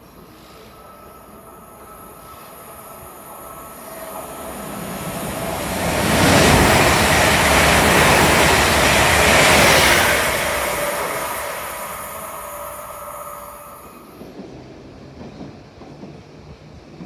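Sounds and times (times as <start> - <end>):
train passing by: 0.0 - 17.0.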